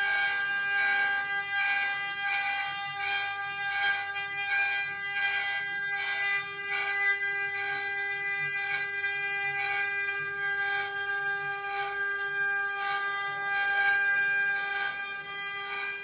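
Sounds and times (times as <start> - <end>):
router cutting wood rasp: 0.0 - 16.0.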